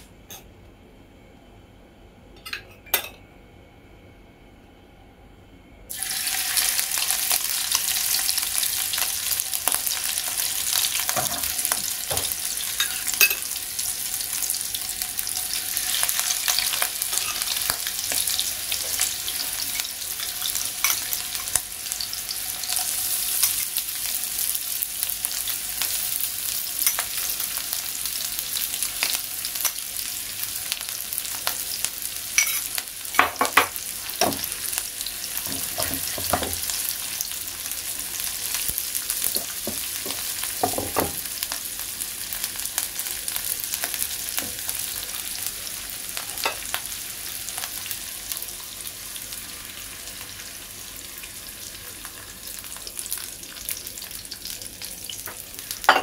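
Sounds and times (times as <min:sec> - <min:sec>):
food sizzling in oil: 0:05.9 - 0:56.0.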